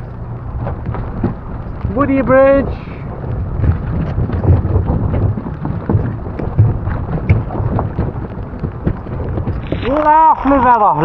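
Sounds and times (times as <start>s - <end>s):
knocks and thumps: 0.0s - 10.8s
wind buffeting microphone: 0.0s - 11.0s.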